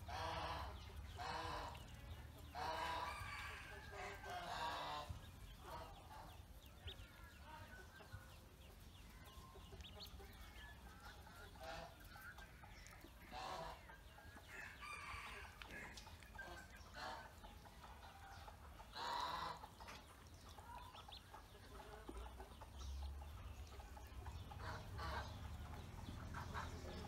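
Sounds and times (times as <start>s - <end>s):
ducklings peeping: 0.0s - 27.0s.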